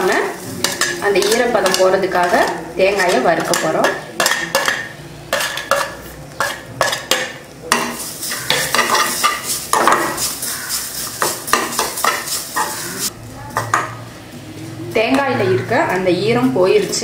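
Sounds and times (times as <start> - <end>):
spoon stirring and scraping metal pan: 0.0 - 14.0.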